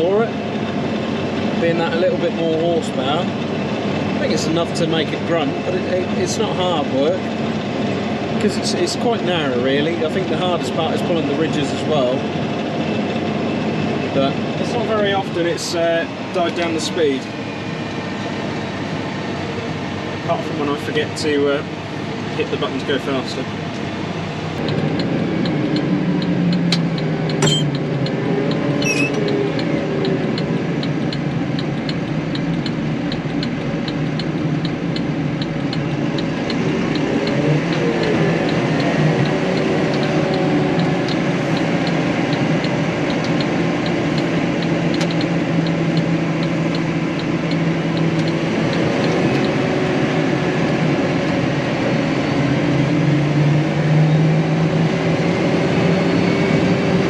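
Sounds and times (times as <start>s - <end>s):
tractor engine from inside cab: 0.0s - 57.0s.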